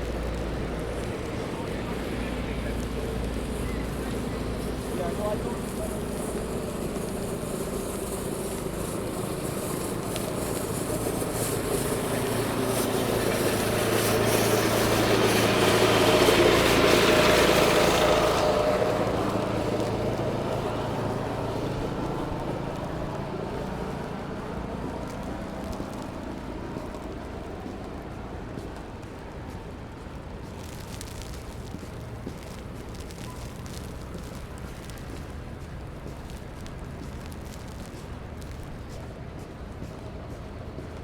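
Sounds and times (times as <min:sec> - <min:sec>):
vehicle passing by: 0:00.0 - 0:38.6
low hum of traffic: 0:00.0 - 0:41.0.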